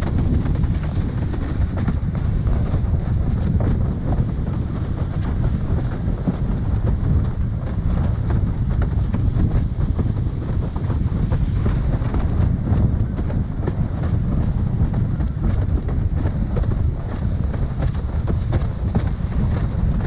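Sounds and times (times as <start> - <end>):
water rushing under hull: 0.0 - 20.0
wind buffeting microphone: 0.0 - 20.0.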